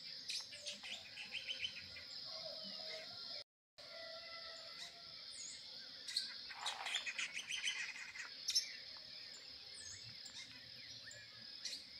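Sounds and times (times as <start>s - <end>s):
birds chirping and calling: 0.0s - 3.4s, 4.5s - 11.9s
high insect drone: 0.0s - 11.9s.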